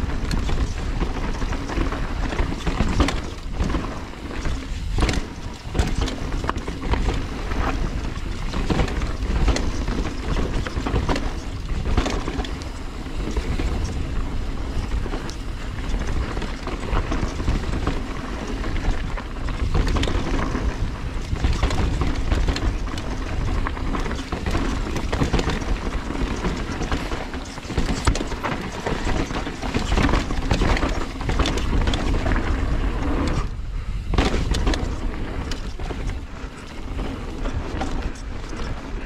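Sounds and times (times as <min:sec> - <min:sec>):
tyres on dirt and rock: 0:00.0 - 0:39.0
wind buffeting microphone: 0:00.0 - 0:39.0.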